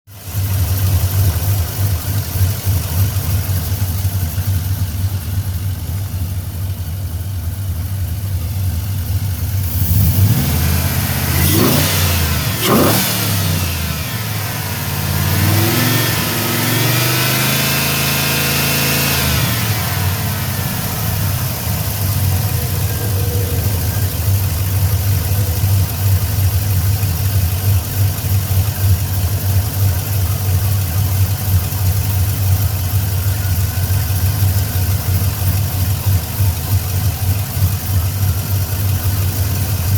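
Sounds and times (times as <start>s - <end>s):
engine idling and revving: 0.1s - 39.9s.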